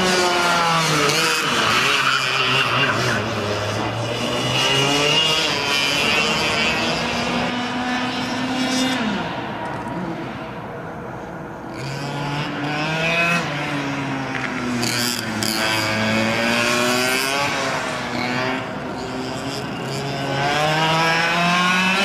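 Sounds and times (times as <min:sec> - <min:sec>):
two-stroke kart engine revving: 0:00.0 - 0:09.4, 0:11.7 - 0:22.0.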